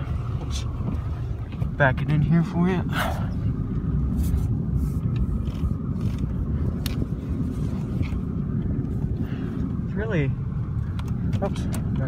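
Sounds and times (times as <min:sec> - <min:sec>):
car engine low rumble: 0:00.0 - 0:12.0
tyres on snowy road: 0:00.0 - 0:12.0.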